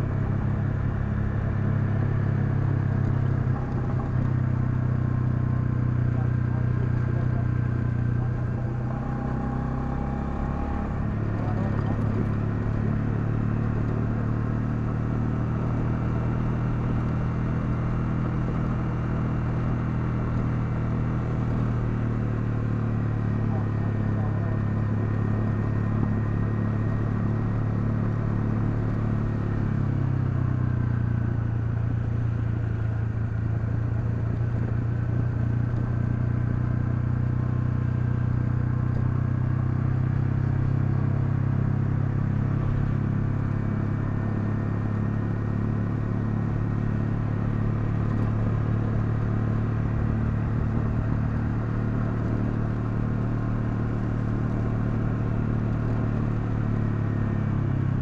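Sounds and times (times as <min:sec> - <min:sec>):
single-cylinder motorcycle engine running: 0:00.0 - 0:58.0.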